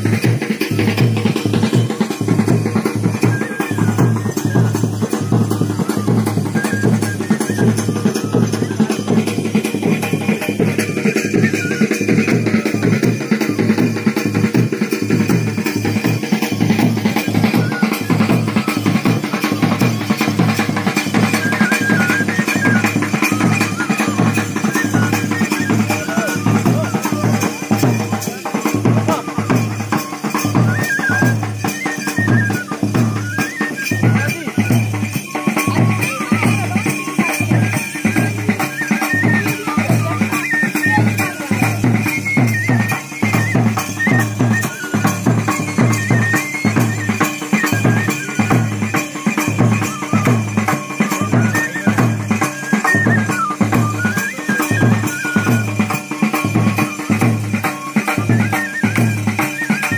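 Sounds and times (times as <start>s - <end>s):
double-headed drums beat: 0.0s - 59.9s
wind instrument melody: 0.0s - 59.9s.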